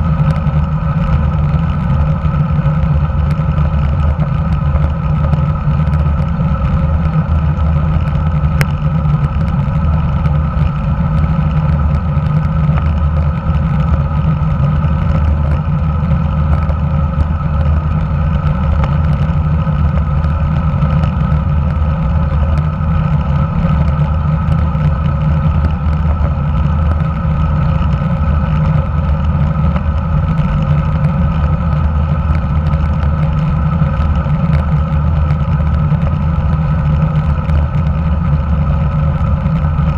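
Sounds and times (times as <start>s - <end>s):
road rumble: 0.0s - 39.9s.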